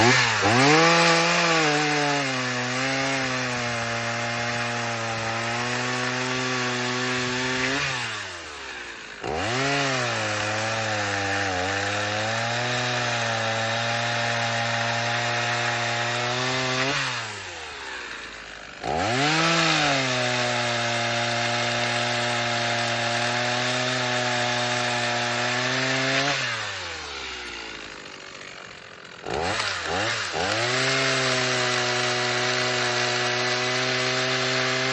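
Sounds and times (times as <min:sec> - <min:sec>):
chainsaw cutting wood: 0:00.0 - 0:34.9
chainsaw idling and revving: 0:00.0 - 0:34.9.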